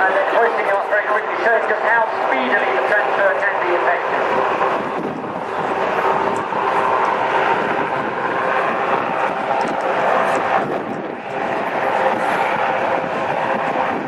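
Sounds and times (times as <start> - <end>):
aircraft engine drone: 0.0 - 14.0.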